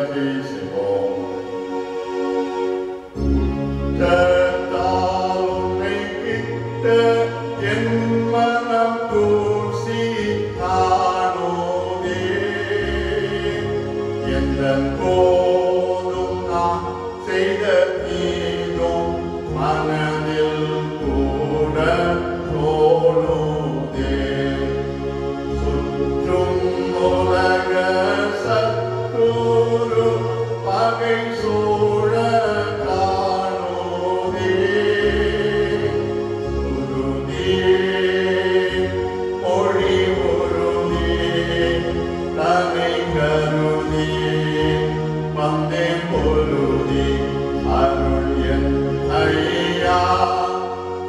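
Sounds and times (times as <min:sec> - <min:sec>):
hymn singing: 0:00.0 - 0:51.0
instrumental accompaniment: 0:00.0 - 0:51.0.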